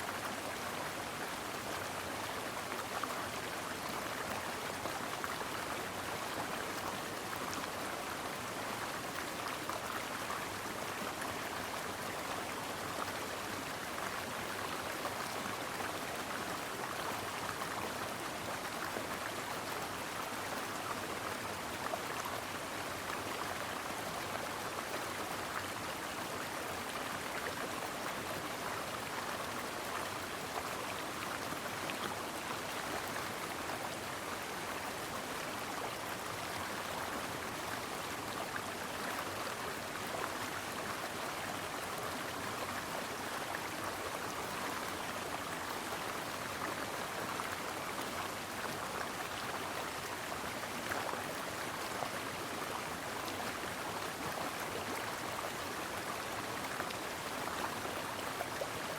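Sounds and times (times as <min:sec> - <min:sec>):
brook water flowing over rocks: 0:00.0 - 0:58.9.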